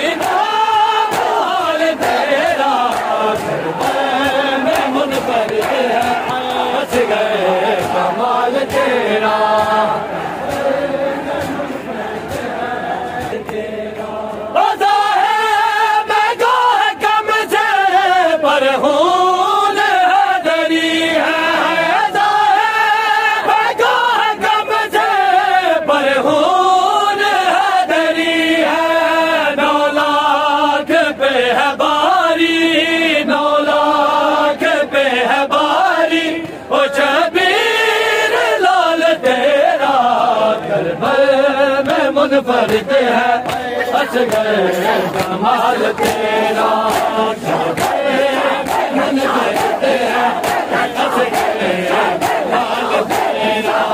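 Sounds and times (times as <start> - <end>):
men chanting a lament: 0.0 - 53.9.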